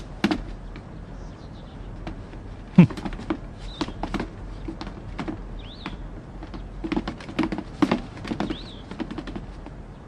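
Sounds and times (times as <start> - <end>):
bird chirp: 0.5 - 7.1, 8.2 - 10.0.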